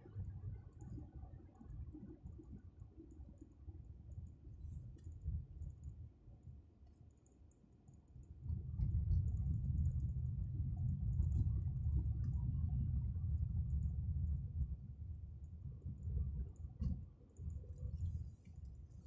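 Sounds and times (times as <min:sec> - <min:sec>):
faint light clicks: 0:00.0 - 0:12.6, 0:13.3 - 0:19.0.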